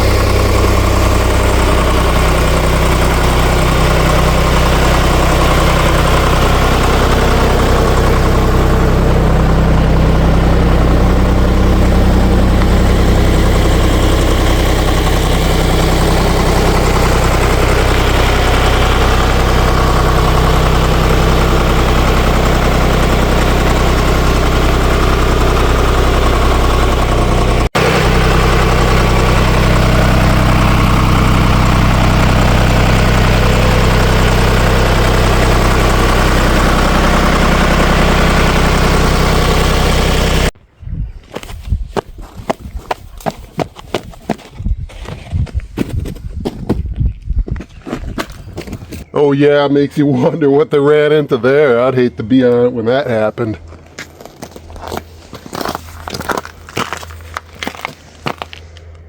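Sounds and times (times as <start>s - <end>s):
diesel engine idling: 0.0s - 40.6s, 47.7s - 59.0s.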